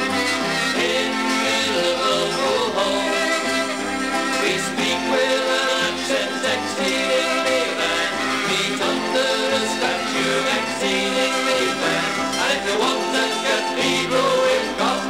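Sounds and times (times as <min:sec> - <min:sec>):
lively folk melody with sliding notes: 0:00.0 - 0:15.0
steady bass accompaniment: 0:00.0 - 0:15.0.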